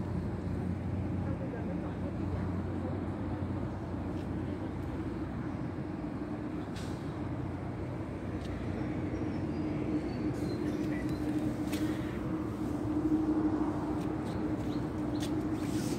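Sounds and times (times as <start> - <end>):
engine rumbling: 0.0 - 15.9.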